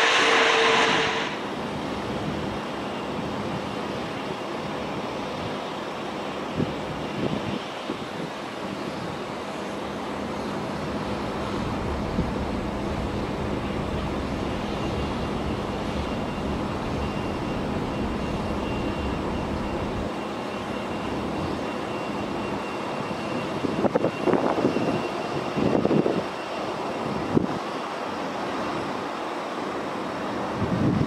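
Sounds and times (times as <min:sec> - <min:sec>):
thin steady whine: 0:00.0 - 0:30.6
jet engines rumbling: 0:00.0 - 0:31.0.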